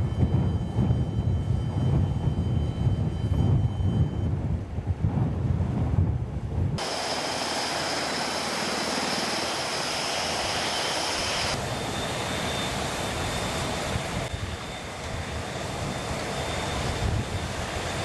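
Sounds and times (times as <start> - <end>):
aircraft engine rushing and whining: 0.0 - 18.0.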